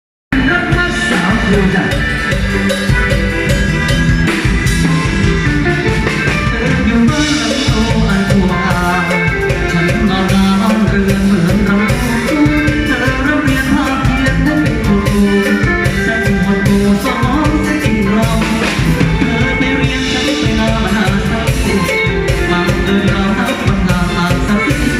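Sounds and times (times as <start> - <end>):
live band playing: 0.3 - 24.9
lead vocal singing: 0.4 - 2.0, 6.4 - 24.9.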